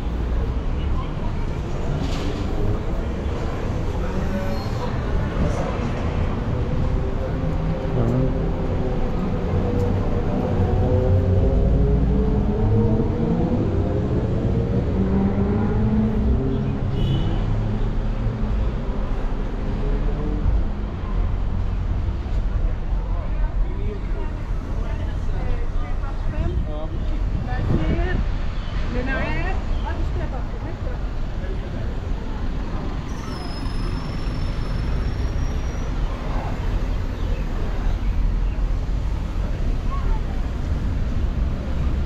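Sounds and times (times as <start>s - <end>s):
street traffic rumble: 0.0s - 42.0s.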